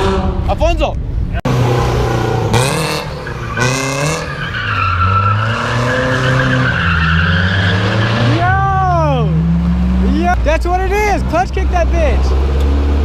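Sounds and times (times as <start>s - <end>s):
car engine revving: 0.0s - 0.6s, 1.4s - 13.0s
tires squealing: 1.4s - 13.0s.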